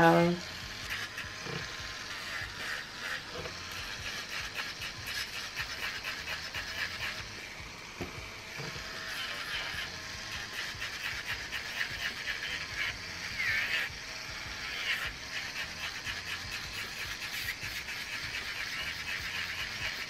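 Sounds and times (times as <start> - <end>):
bit grinding gel nail: 0.0 - 7.4, 8.1 - 20.0
electric nail drill whirring: 0.0 - 20.0.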